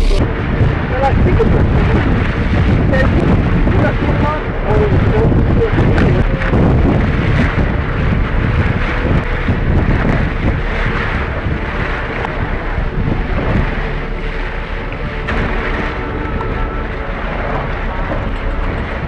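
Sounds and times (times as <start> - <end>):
boat engine hum: 0.0 - 19.0
rushing water: 0.0 - 19.0
wind buffeting microphone: 0.0 - 19.0.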